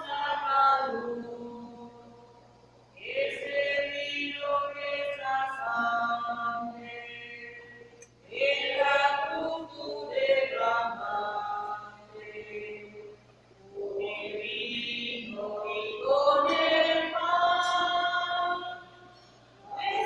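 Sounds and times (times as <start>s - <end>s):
hymn being sung: 3.0s - 20.0s.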